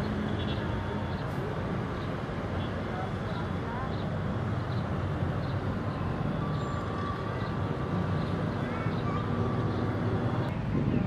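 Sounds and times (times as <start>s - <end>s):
heavy vehicle rumbling: 0.0s - 11.0s.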